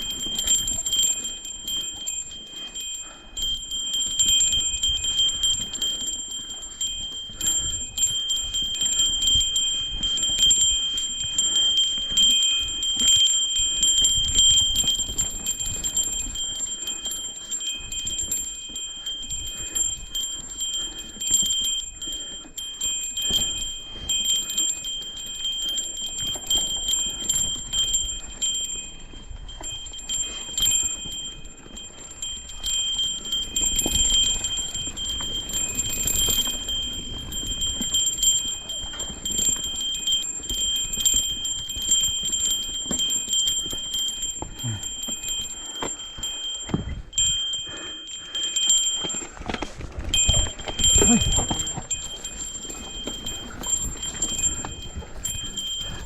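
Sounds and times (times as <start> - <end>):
small bell jingling: 0.0 - 56.0.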